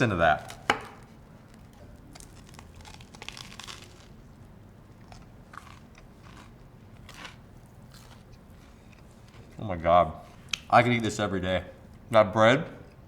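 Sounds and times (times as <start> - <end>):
crunching of sandwich being chewed: 0.0 - 11.2.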